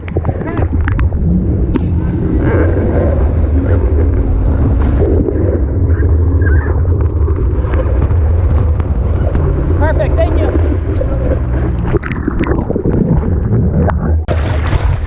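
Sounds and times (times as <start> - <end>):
boat motor running: 0.0 - 14.5
wind rumbling on microphone: 0.0 - 15.0.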